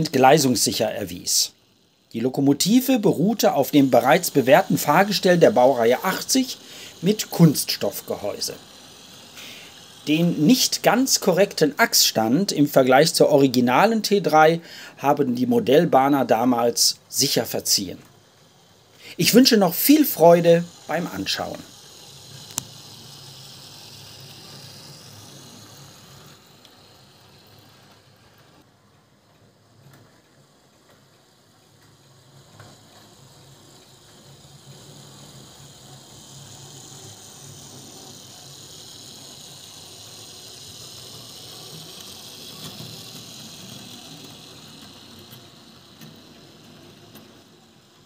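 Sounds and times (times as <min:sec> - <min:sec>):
model train motor whirring: 0:00.0 - 0:48.0
wheels running on rails: 0:00.0 - 0:48.0.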